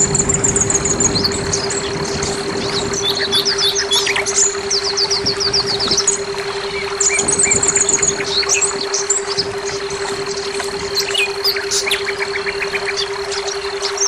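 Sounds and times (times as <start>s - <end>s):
steady high tone: 0.0s - 14.0s
steady low hum: 0.0s - 14.0s
thrush singing: 0.0s - 14.0s.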